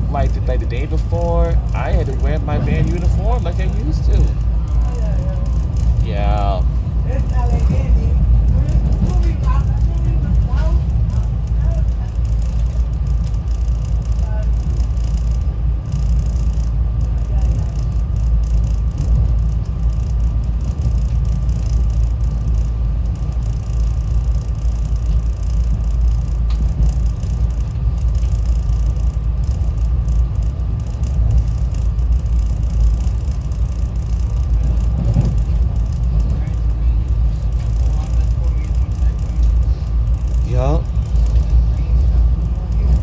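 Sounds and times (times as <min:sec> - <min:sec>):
faint steady whine: 0:00.0 - 0:43.0
train rumble from inside: 0:00.0 - 0:43.0.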